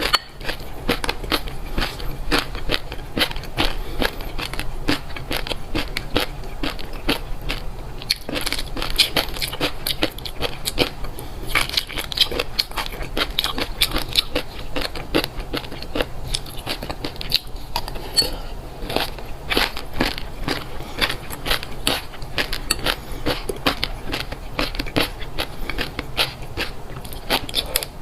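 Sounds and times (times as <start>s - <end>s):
chewing crunchy food: 0.0s - 28.0s.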